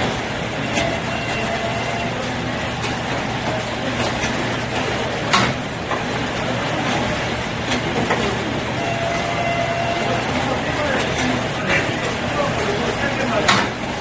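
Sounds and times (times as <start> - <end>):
bundle-tying machine running: 0.0 - 14.0.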